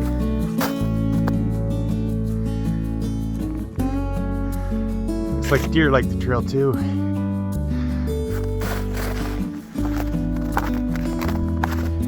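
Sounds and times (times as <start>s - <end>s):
sustained bass notes: 0.0s - 11.7s
acoustic guitar strumming chords: 0.0s - 12.0s.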